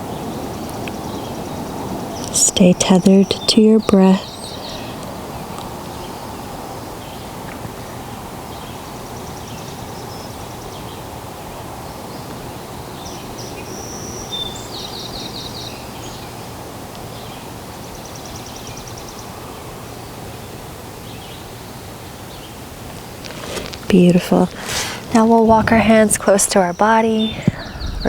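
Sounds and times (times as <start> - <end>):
small birds chirping: 0.0 - 19.6, 22.3 - 28.0.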